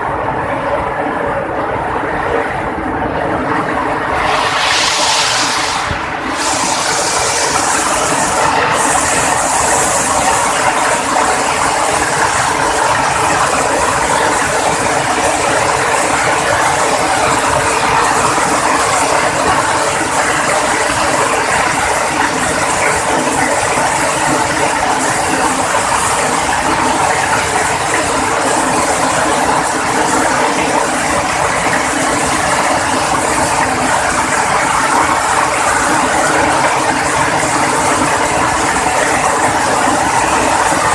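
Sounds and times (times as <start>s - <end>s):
heavy rain falling: 3.0s - 40.9s.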